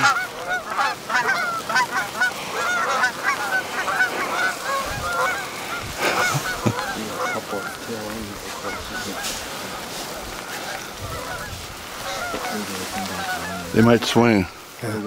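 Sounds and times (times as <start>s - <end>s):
geese honking in flight: 0.0s - 15.0s.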